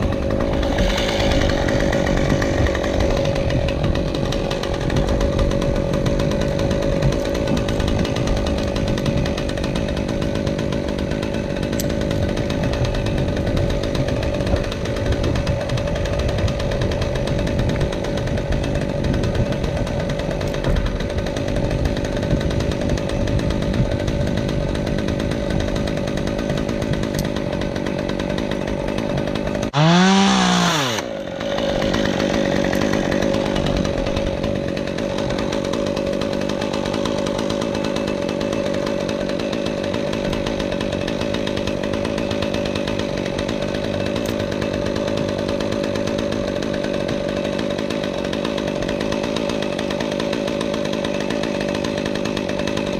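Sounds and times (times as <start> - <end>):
chainsaw engine running: 0.0 - 52.9
chainsaw rev: 0.0 - 52.9.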